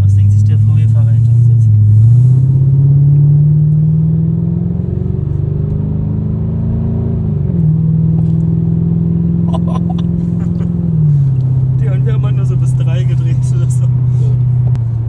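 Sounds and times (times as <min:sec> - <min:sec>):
loud open exhaust engine: 0:00.0 - 0:15.0.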